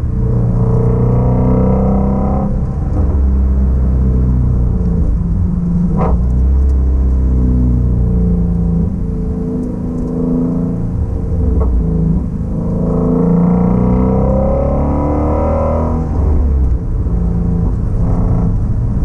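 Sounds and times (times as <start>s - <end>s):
car engine cruising: 0.0s - 19.0s.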